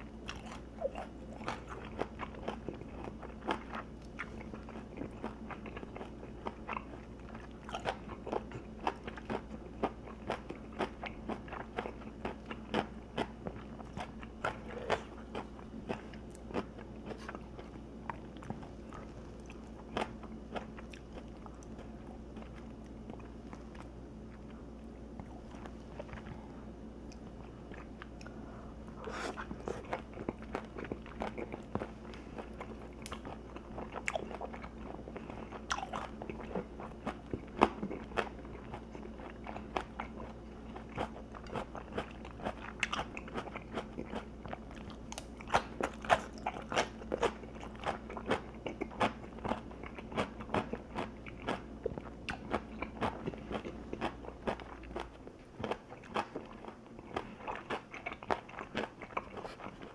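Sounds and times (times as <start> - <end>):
crunching and chewing food: 0.0 - 59.9.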